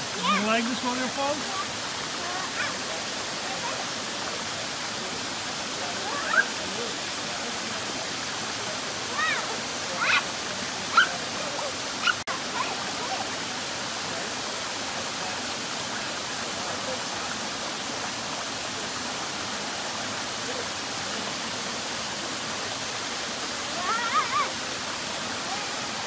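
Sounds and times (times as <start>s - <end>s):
stream over rocks: 0.0s - 26.0s
waterfall rushing: 0.0s - 26.0s.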